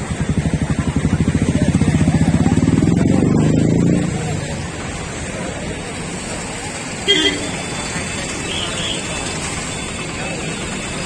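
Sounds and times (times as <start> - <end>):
motorcycle engine running: 0.0 - 11.0
steady background rush: 0.0 - 11.0.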